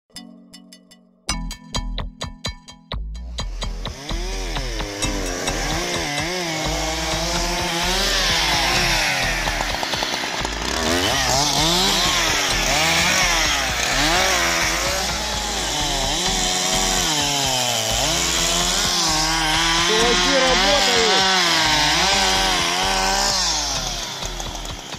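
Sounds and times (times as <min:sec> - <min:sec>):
chainsaw revving while cutting: 0:03.5 - 0:24.9.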